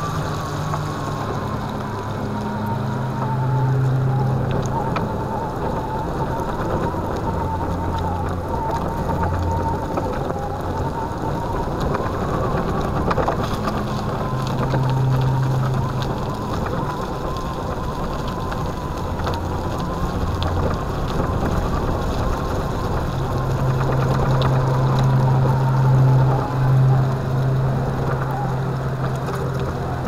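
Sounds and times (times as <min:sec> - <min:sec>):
electric motor whine: 0:00.0 - 0:30.0.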